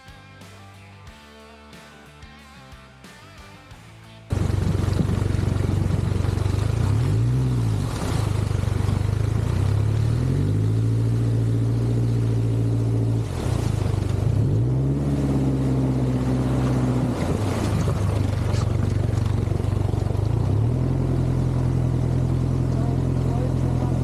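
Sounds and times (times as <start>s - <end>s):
jet-boat motor revving: 4.3s - 24.0s
water rushing under hull: 4.3s - 24.0s.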